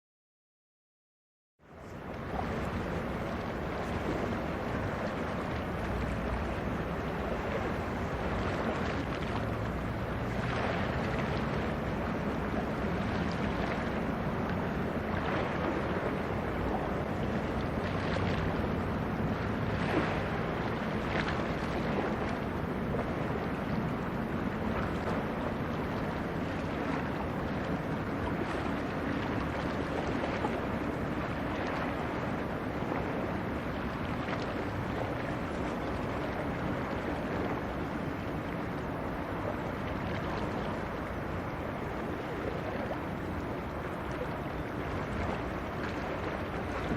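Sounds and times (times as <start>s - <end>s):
sea water washing: 1.7s - 46.9s
wind buffeting microphone: 1.8s - 46.9s.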